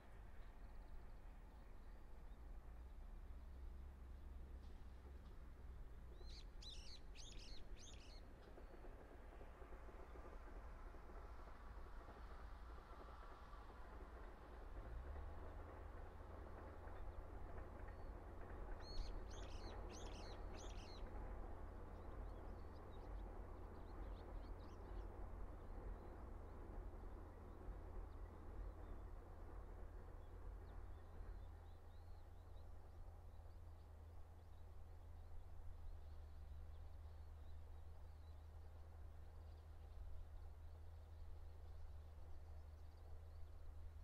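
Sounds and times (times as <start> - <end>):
low background rumble: 0.0 - 44.0.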